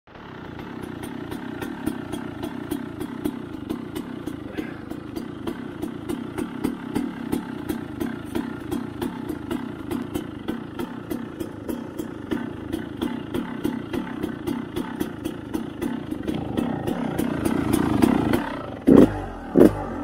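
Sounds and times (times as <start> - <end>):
dirt bike engine idling: 0.1 - 20.0.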